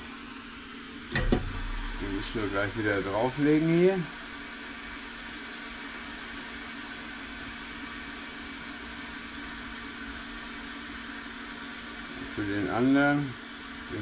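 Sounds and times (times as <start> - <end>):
hot air blower running: 0.0 - 14.0.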